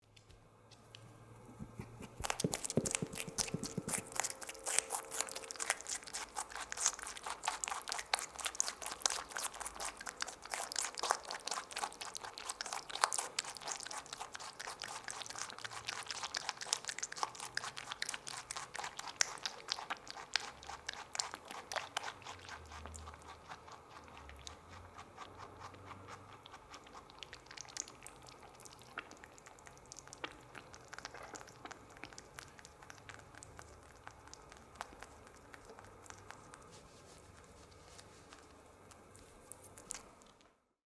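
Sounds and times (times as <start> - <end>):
rabbit chewing crunchily: 0.7 - 40.5.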